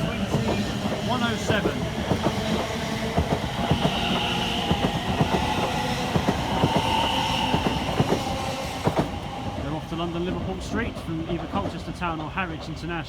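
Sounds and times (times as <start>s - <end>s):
electric train whine: 0.0s - 13.0s.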